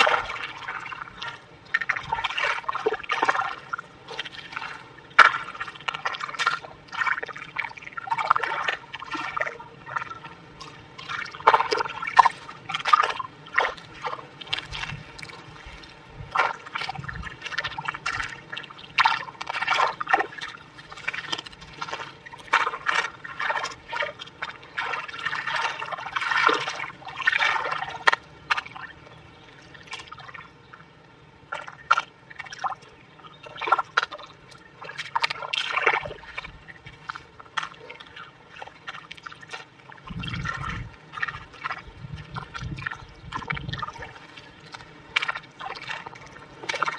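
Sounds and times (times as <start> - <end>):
hands squelching wet mud: 0.0 - 29.2, 31.5 - 46.9.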